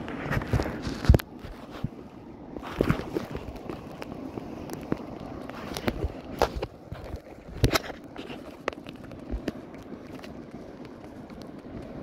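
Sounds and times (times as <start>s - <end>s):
wind and sea water hiss: 0.0s - 12.0s.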